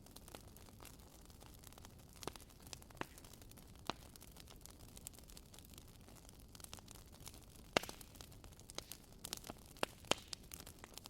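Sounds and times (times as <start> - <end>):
firewood crackling and popping: 0.0 - 11.0
low hiss of fire: 0.0 - 11.0.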